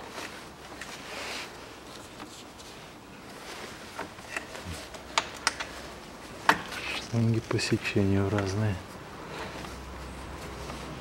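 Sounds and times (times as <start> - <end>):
soft rustling and handling noise: 0.0 - 11.0.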